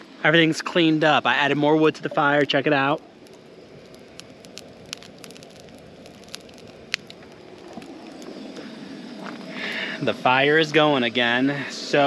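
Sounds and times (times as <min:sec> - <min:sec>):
fire burning low rush: 0:00.0 - 0:12.0
campfire crackling and popping: 0:00.4 - 0:11.4.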